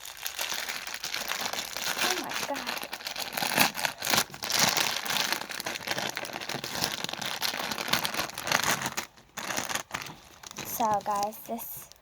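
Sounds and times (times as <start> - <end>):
slime crackling and crinkling: 0.0 - 12.0.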